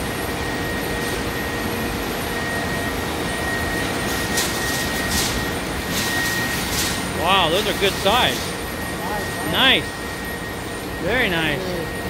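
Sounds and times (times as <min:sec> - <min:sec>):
conveyor machinery running: 0:00.0 - 0:12.0
steady high whine: 0:00.0 - 0:12.0.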